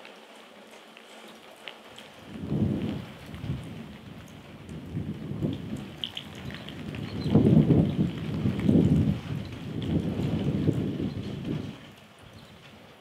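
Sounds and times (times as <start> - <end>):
rain drops ticking: 0.0 - 13.0
wind buffeting microphone: 2.1 - 13.0.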